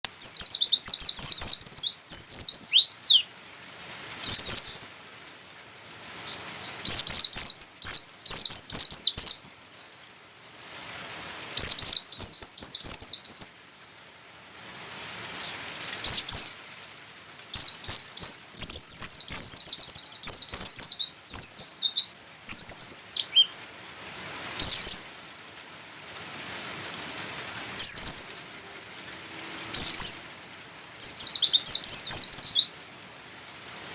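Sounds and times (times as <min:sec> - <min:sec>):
bird twittering trills: 0:00.0 - 0:03.5, 0:04.2 - 0:10.1, 0:10.7 - 0:14.1, 0:14.9 - 0:23.6, 0:24.6 - 0:30.4, 0:31.0 - 0:33.6.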